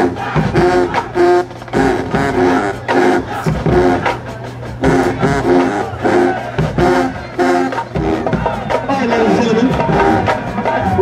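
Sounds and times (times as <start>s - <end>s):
drum hits: 0.0s - 11.0s
marching band brass chords: 0.0s - 11.0s.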